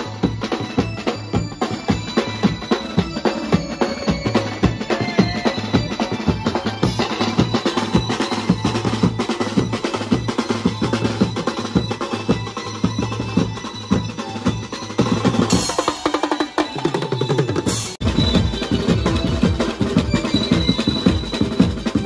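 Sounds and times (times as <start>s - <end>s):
drum set with cymbals: 0.0s - 22.0s
roto drums: 0.0s - 22.0s.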